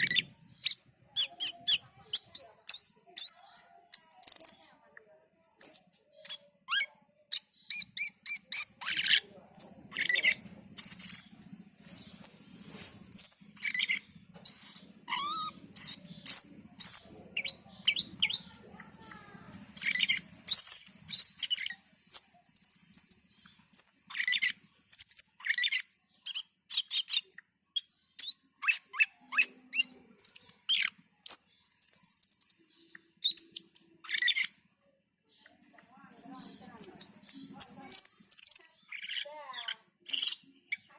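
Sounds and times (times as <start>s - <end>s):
songbird chirping and chattering: 0.0s - 40.9s.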